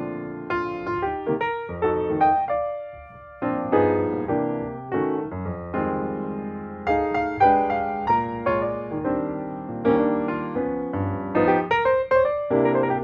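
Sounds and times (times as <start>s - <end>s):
electric piano melody: 0.0s - 13.0s.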